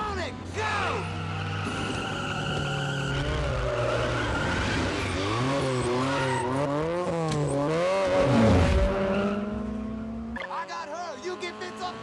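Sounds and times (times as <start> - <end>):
tyres skidding: 0.1 - 12.0
car engine racing: 0.3 - 12.0.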